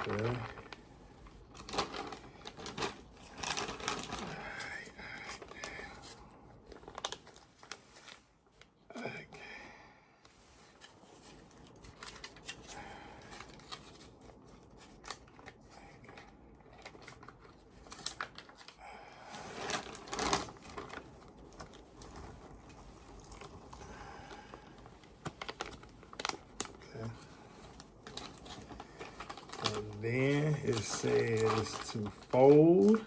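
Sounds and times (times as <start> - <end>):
plastic pouches crinkling: 0.0 - 8.9, 10.7 - 33.0.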